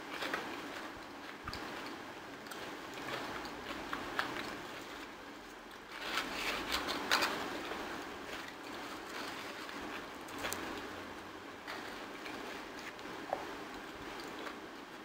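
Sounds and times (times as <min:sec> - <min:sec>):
chewing and handling food: 0:00.0 - 0:15.0
crackling: 0:00.0 - 0:15.0.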